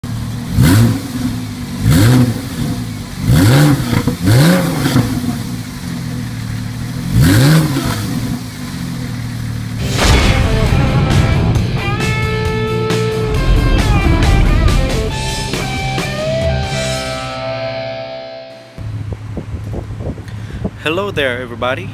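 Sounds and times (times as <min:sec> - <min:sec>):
car engine revving and idling: 0:00.0 - 0:17.2, 0:18.6 - 0:21.9.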